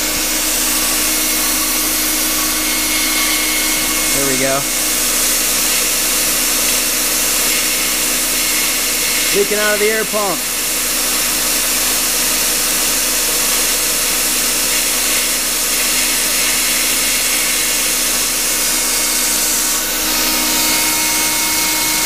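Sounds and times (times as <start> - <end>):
air pump whirring with hiss: 0.0 - 22.0.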